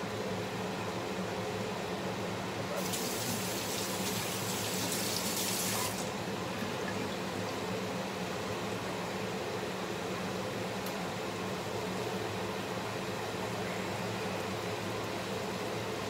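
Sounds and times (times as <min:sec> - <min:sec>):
range hood fan hum: 0:00.0 - 0:16.0.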